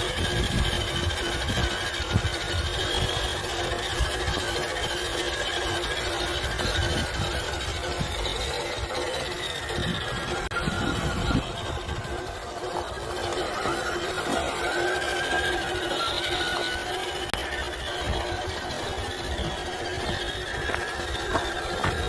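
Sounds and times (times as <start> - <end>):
rc car motor whining: 0.0 - 22.0.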